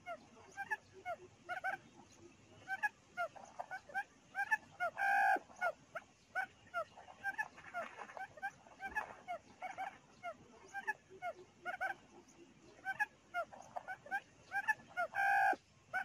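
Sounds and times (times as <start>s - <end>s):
quail calling: 0.0s - 2.0s, 2.6s - 16.0s.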